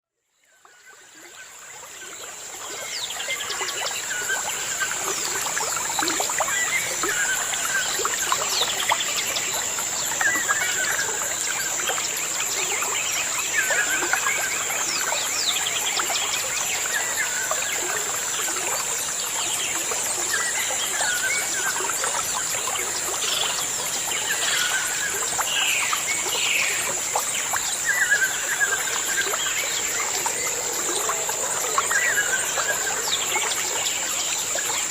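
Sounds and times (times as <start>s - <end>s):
trickling water: 0.4s - 34.9s.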